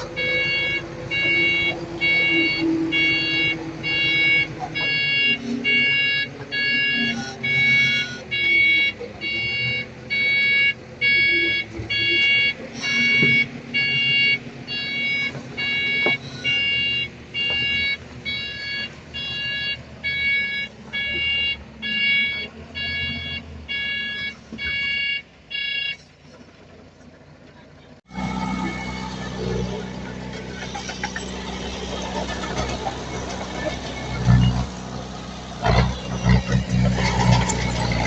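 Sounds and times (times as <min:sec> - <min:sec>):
reversing alarm beeping: 0:00.0 - 0:26.0, 0:28.1 - 0:38.0
diesel engine running: 0:00.0 - 0:38.0.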